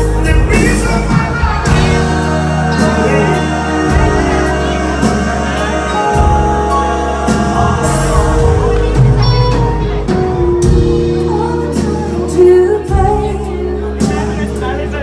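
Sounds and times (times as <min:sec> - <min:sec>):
live band with singing: 0:00.0 - 0:15.0.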